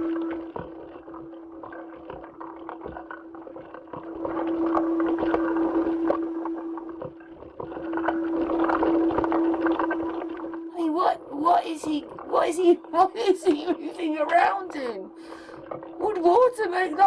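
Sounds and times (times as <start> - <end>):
sloshing like water: 0.0 - 17.0
steady hum: 0.0 - 17.0.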